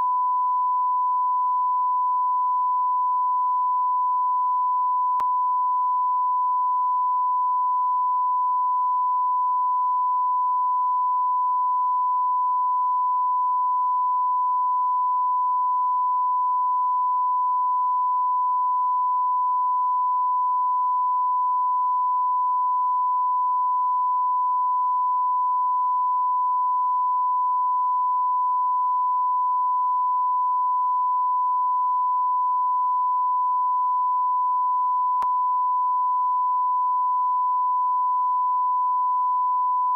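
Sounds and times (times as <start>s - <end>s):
high-pitched sine tone: 0.0s - 39.9s.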